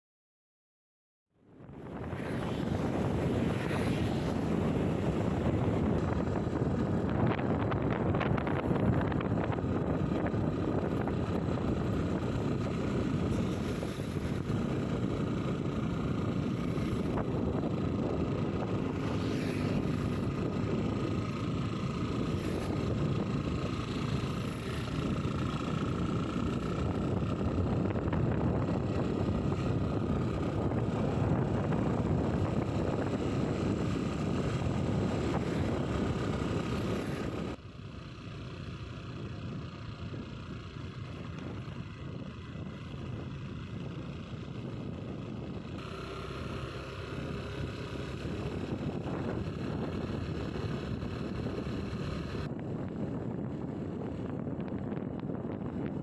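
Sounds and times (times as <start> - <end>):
strong wind buffeting microphone: 1.6 - 56.0.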